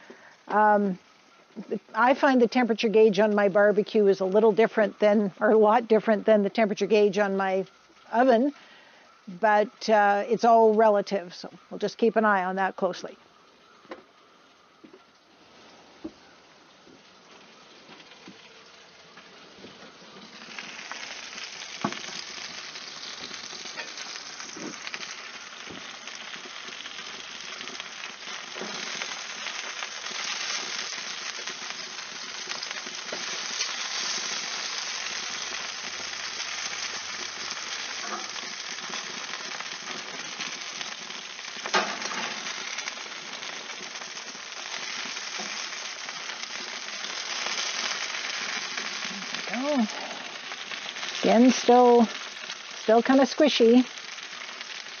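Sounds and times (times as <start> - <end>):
meat sizzling on a grill: 0.0 - 55.0.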